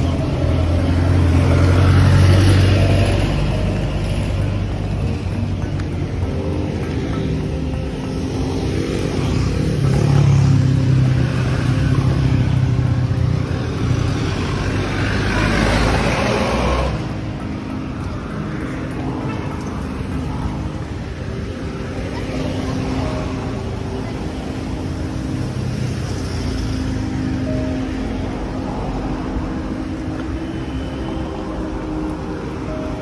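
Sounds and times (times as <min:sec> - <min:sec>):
motorcycles and cars passing: 0:00.0 - 0:33.0.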